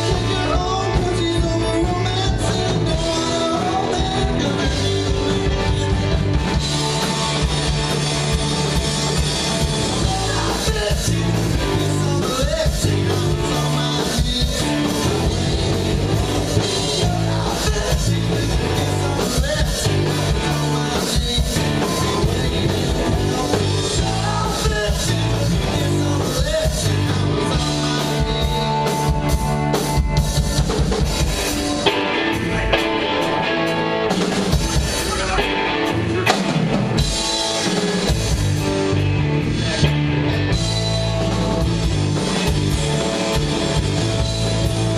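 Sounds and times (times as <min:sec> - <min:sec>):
drums keeping steady beat: 0:00.0 - 0:44.9
live rock band playing: 0:00.0 - 0:44.9.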